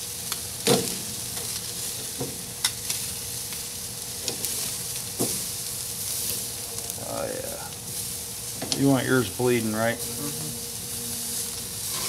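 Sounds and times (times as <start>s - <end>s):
food sizzling on a grill: 0.0s - 12.0s.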